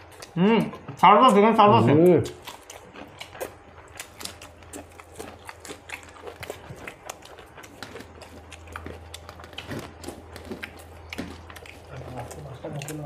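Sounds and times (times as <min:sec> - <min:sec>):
mouth smacks and chewing: 0:00.0 - 0:13.0.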